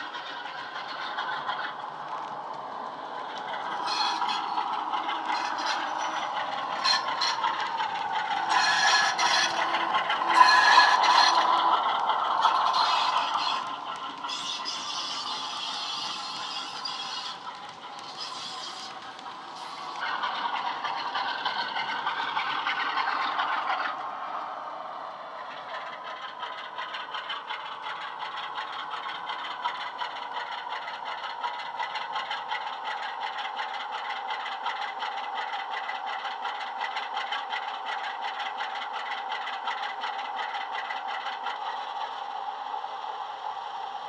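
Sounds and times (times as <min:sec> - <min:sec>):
diesel engine sound from speaker: 0:00.0 - 0:43.8.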